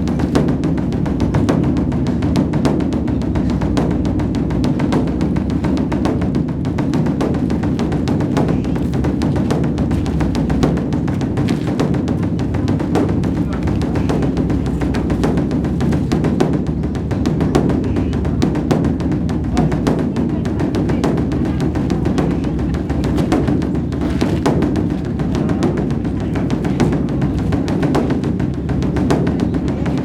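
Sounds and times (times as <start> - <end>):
large drum beaten rapidly: 0.0 - 30.0.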